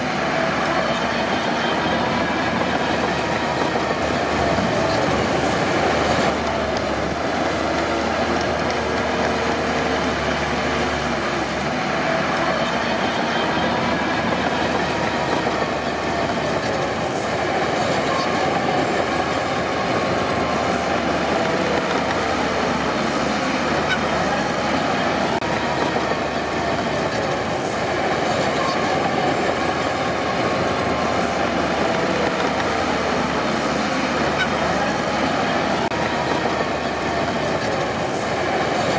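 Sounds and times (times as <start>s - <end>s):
bulldozer diesel engine running: 0.0s - 38.9s
steel tracks clanking and squealing: 0.0s - 38.9s.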